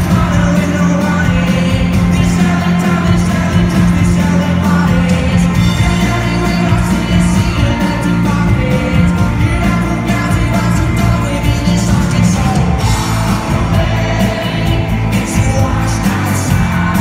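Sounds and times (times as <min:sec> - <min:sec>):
live rock band: 0:00.0 - 0:17.0
man singing: 0:00.0 - 0:17.0.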